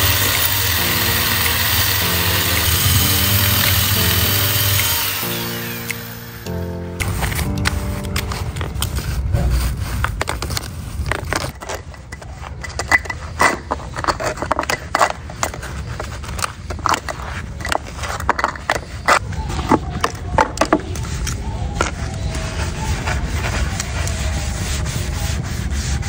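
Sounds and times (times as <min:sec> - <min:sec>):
brush scrubbing plastic: 0:00.0 - 0:26.0.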